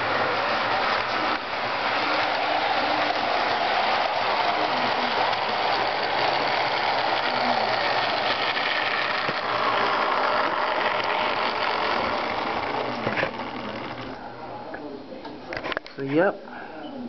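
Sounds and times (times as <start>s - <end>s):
model train motor whirring: 0.0s - 14.2s
wheels on rails: 0.0s - 14.2s.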